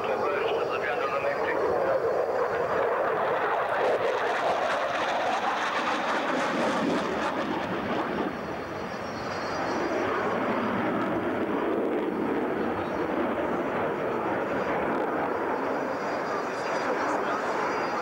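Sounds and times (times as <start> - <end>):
fighter jet flying past: 0.0 - 18.0.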